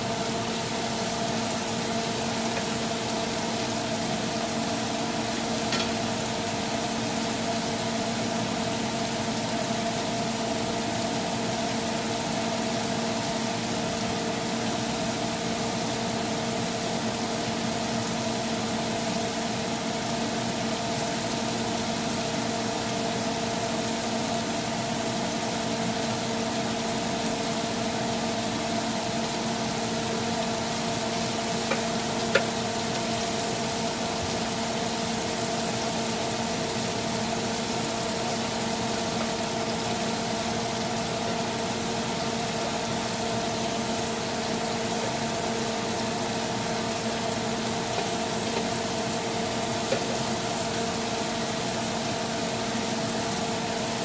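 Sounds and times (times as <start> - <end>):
shrimp sizzling in a pan: 0.0 - 54.0.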